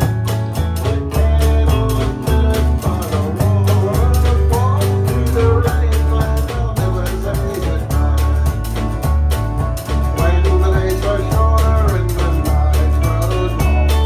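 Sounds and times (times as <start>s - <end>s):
band music: 0.0s - 14.0s
bass: 0.0s - 14.0s
drums steady beat: 0.0s - 14.0s
guitar: 0.0s - 14.0s.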